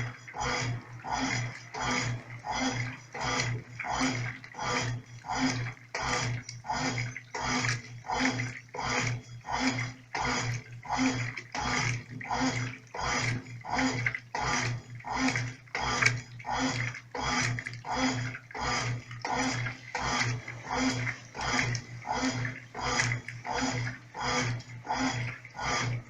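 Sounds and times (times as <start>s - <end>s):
washing machine agitating: 0.0s - 26.0s
water and clothes sloshing: 0.0s - 26.0s.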